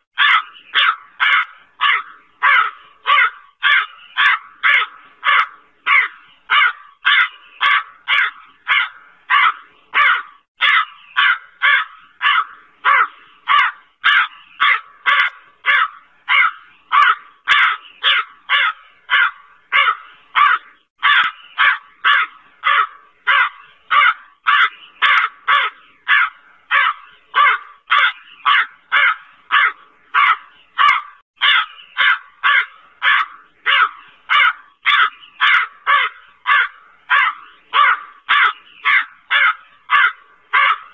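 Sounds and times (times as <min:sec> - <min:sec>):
crow cawing: 0:00.2 - 0:40.9.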